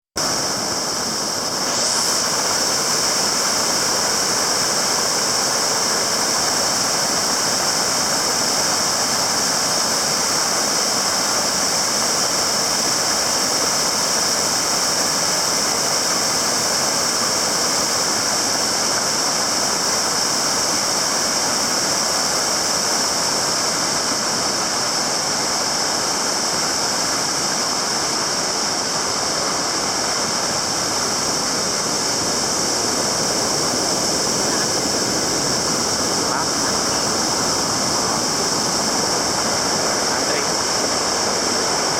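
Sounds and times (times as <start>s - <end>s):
high-pitched hiss: 0.2s - 41.9s
waterfall rushing: 0.2s - 41.9s.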